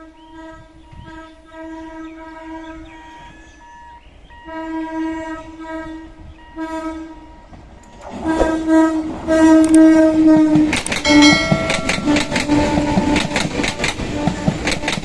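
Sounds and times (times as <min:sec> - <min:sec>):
train horn blasts: 0:00.0 - 0:03.4, 0:04.4 - 0:15.0
train rumble and wheel clatter: 0:00.0 - 0:15.0.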